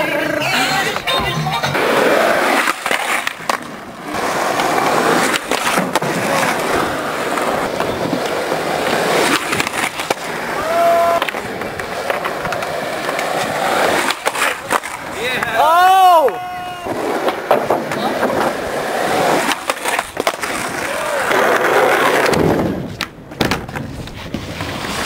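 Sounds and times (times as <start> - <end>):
skateboard clacking on ground: 0.0 - 25.0
skateboard wheels rolling on concrete: 0.0 - 25.0.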